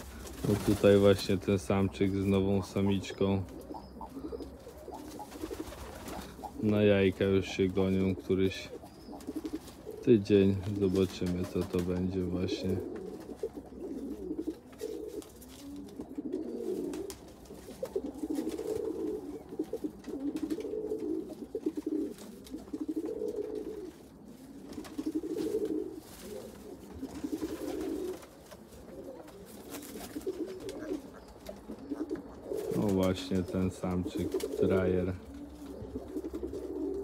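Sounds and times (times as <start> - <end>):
pigeon cooing: 0.0 - 37.0.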